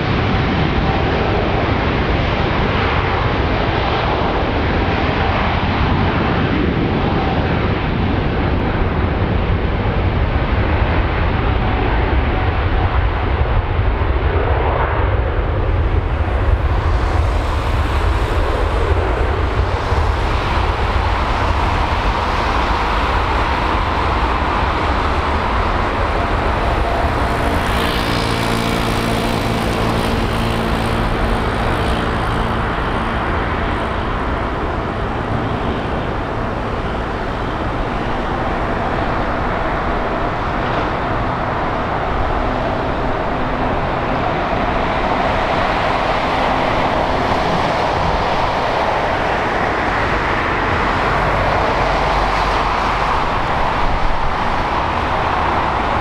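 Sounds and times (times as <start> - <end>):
jet engines at takeoff thrust: 0.0 - 56.0.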